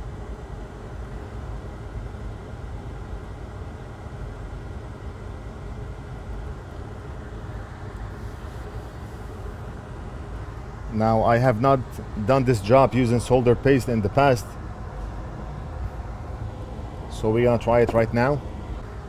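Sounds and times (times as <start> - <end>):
low rumbling hum: 0.0 - 19.0.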